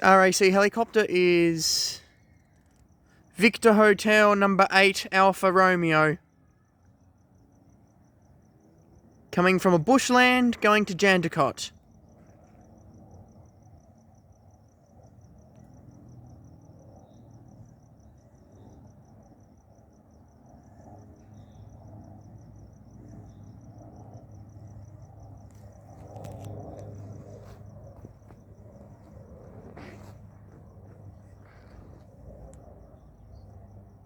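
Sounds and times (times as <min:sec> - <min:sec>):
distant helicopter rumble: 0:00.0 - 0:06.2, 0:08.4 - 0:34.0
cricket chirping: 0:00.0 - 0:34.0.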